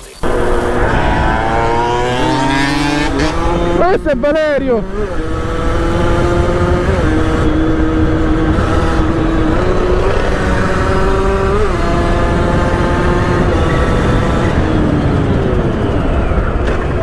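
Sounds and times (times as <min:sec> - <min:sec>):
motorcycle engine at high revs: 0:00.2 - 0:17.0
rushing wind and road noise: 0:00.2 - 0:17.0.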